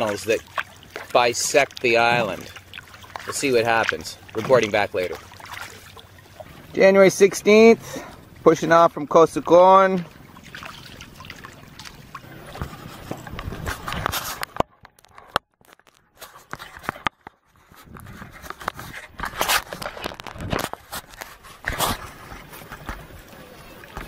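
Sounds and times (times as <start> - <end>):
paddle strokes splashing: 0.0 - 15.4, 16.1 - 24.0
kayak scraping across mud: 0.0 - 24.0
water lapping: 0.0 - 24.0.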